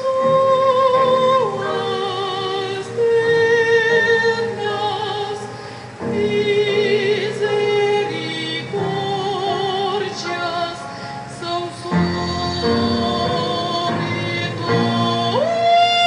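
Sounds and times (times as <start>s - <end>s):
choir singing a hymn: 0.3s - 16.0s.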